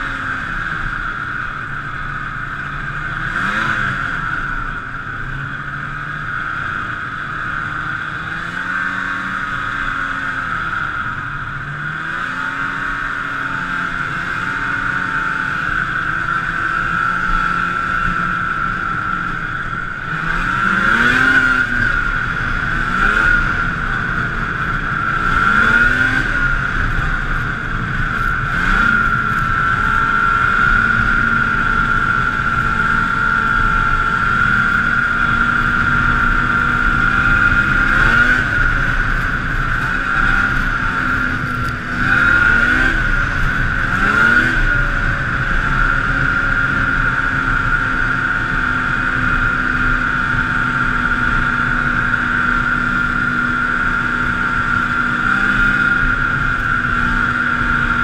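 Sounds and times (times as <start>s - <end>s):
snowmobile engine: 0.0s - 58.0s
steady high-pitched whine: 0.0s - 58.0s.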